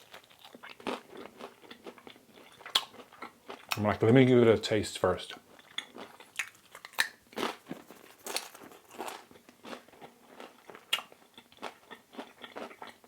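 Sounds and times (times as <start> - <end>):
person crunching crispy pizza: 0.0 - 3.7, 5.5 - 13.0.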